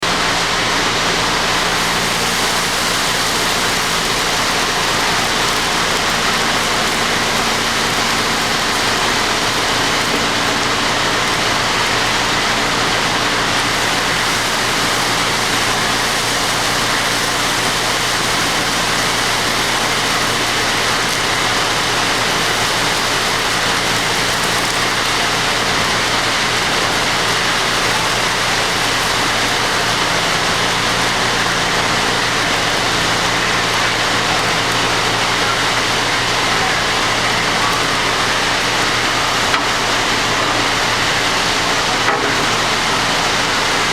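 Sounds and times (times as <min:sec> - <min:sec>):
furnace rushing noise: 0:01.2 - 0:43.9.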